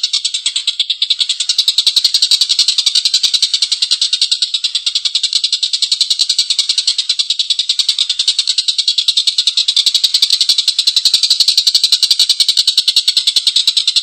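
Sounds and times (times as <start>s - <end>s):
kingfisher harsh chattering call: 0.0s - 14.0s.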